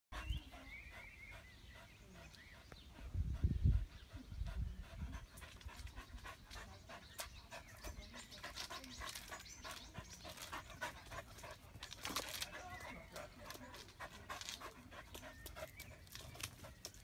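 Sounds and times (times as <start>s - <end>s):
dog panting: 0.2s - 17.0s.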